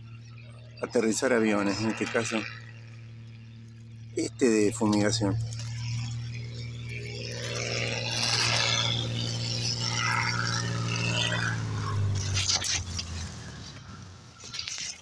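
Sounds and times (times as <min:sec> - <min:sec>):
propeller plane passing: 0:00.0 - 0:15.0.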